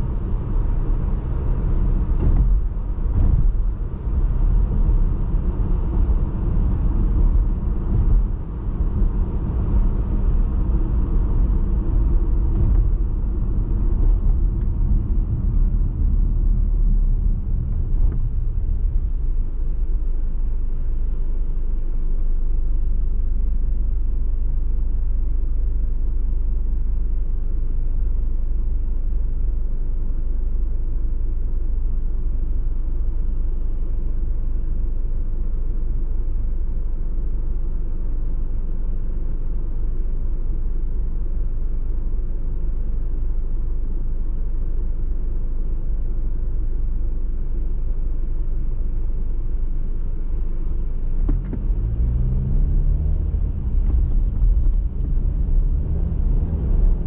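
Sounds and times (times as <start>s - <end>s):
car driving on highway: 0.0s - 57.0s.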